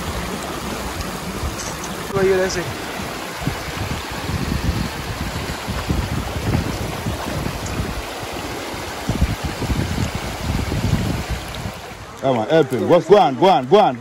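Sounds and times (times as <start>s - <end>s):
wind gusting on microphone: 0.0s - 12.2s
river water rushing: 0.0s - 14.0s.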